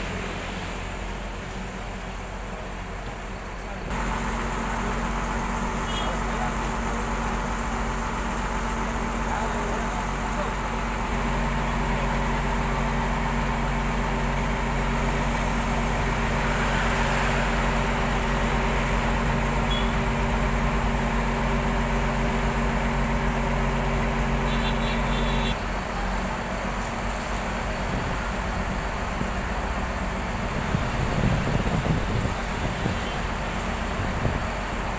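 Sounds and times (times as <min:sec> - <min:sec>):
diesel bus engine idling: 0:00.0 - 0:34.9.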